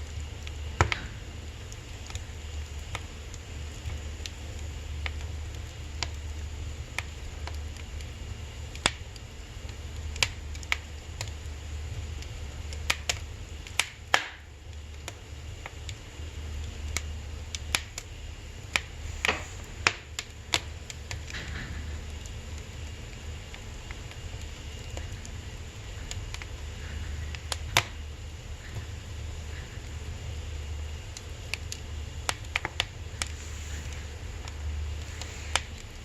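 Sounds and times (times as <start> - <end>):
firewood crackling and popping: 0.0 - 36.0
low steady hum: 0.0 - 36.0.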